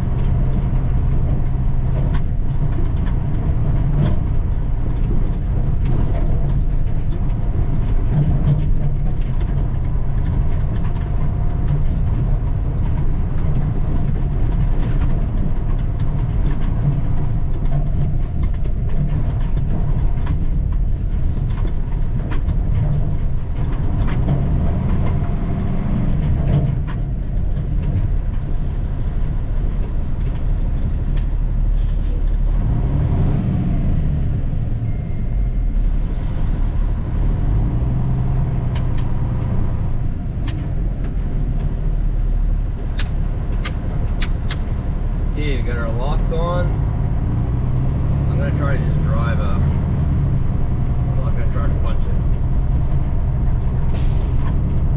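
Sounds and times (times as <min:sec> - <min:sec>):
diesel truck engine rumble: 0:00.0 - 0:54.9.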